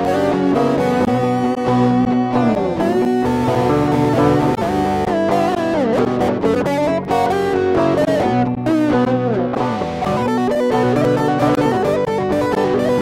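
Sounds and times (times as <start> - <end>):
guitar music with bending notes: 0.0 - 13.0.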